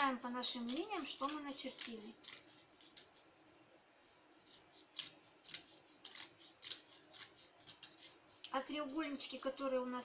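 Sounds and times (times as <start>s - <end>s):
scissors snipping paper: 0.0s - 3.3s, 4.4s - 9.4s.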